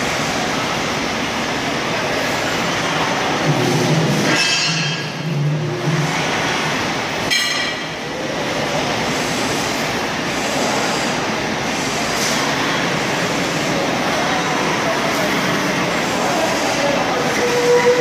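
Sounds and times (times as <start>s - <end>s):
trolley drive unit running: 0.0s - 18.0s.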